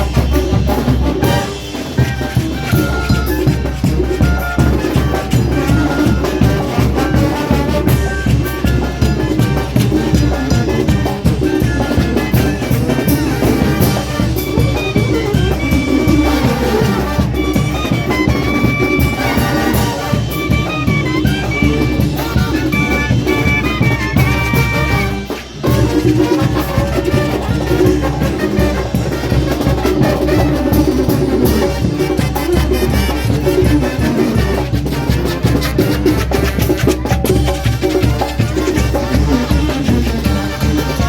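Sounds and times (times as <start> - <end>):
brass band playing dance music: 0.0 - 41.0.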